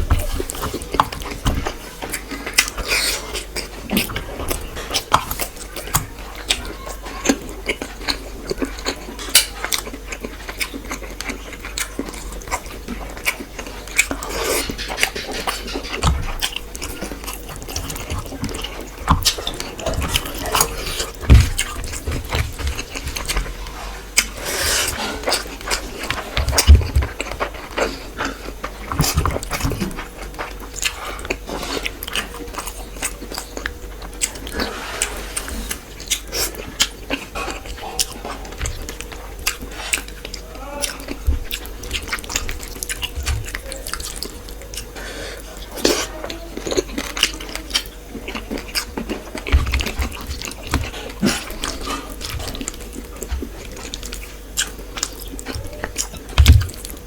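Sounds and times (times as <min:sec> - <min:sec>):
close chewing and biting: 0:00.0 - 0:57.0.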